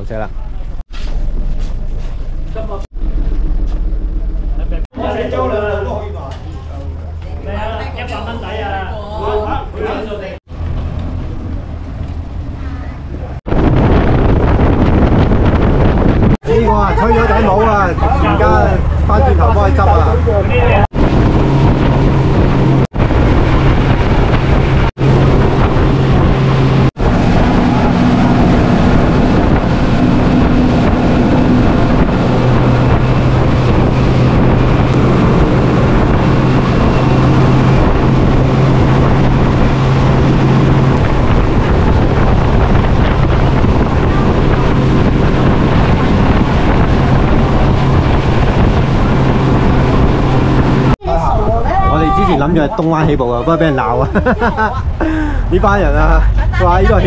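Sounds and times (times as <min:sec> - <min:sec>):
speedboat engine droning: 0:00.0 - 0:57.0
wind buffeting microphone: 0:05.6 - 0:57.0.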